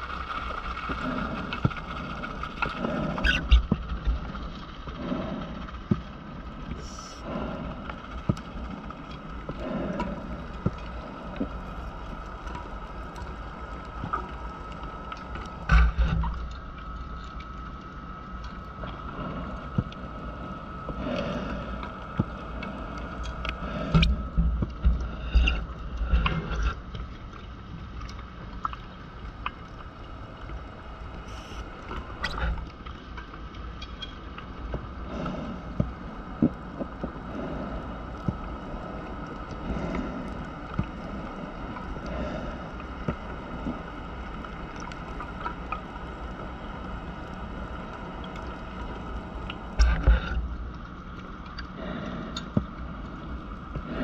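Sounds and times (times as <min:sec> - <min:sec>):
faint steady hum: 0:00.0 - 0:54.0
underwater air bubbles gurgling: 0:00.0 - 0:54.0.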